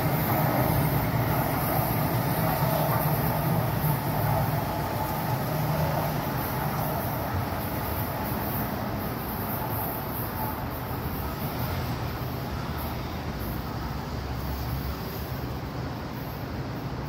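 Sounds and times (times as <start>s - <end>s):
metro train running: 0.0s - 17.0s.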